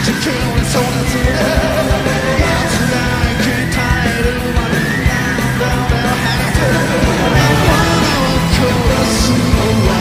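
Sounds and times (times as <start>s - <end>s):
drums keeping a beat: 0.0s - 10.0s
rock band with orchestra: 0.0s - 10.0s.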